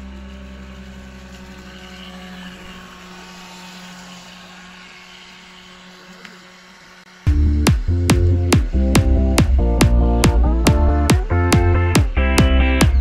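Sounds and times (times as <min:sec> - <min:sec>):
model boat motor whine: 0:00.0 - 0:13.0.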